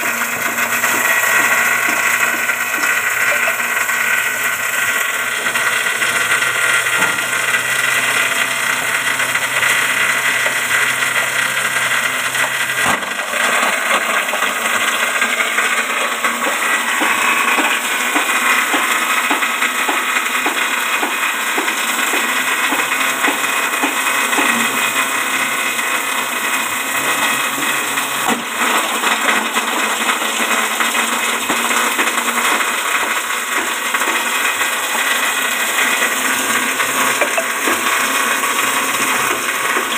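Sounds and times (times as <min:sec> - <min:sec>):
grass chopper whirring: 0:00.0 - 0:39.9.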